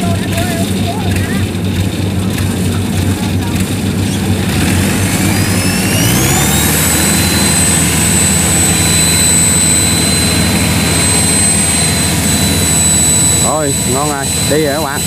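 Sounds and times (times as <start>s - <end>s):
engine revving: 0.0s - 15.0s
turbocharger whine: 0.0s - 15.0s.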